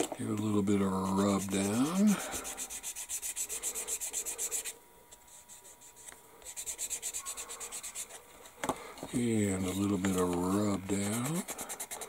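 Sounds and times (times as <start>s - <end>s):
hand-sanding plastic: 0.9s - 8.2s, 9.3s - 12.0s.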